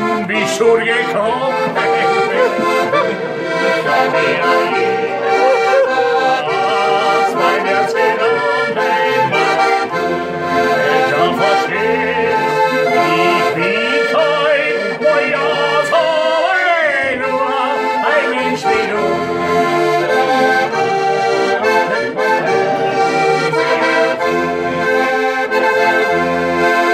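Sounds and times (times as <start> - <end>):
man singing a call: 0.0 - 24.5
button accordion folk tune: 0.0 - 26.9.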